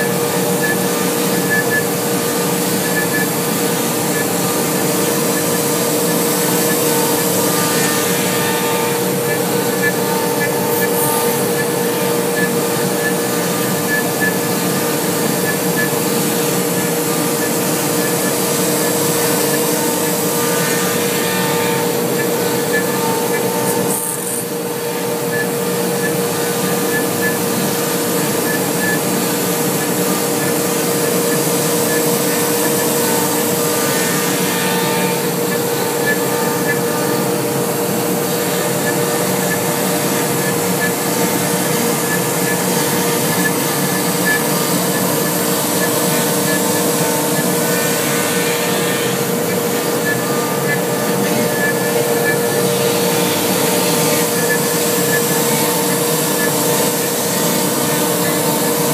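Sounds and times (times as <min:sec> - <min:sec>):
router spindle carving foam: 0:00.0 - 0:58.9.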